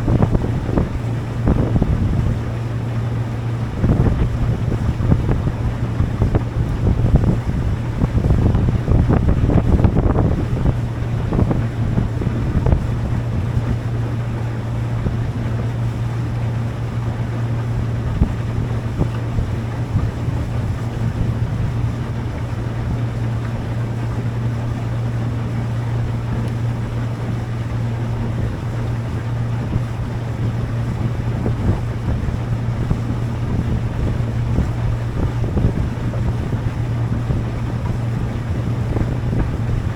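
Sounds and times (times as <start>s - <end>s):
boat engine humming: 0.0s - 39.9s
wind buffeting microphone: 0.0s - 39.9s.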